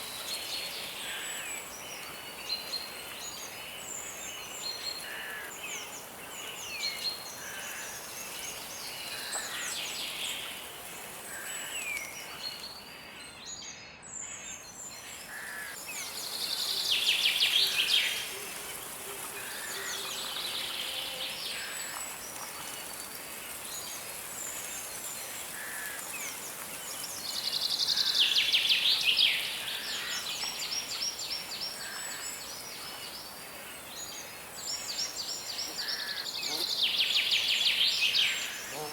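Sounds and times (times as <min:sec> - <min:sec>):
steady background hiss: 0:00.0 - 0:13.4, 0:14.4 - 0:38.9
songbirds singing and chirping: 0:00.0 - 0:38.9.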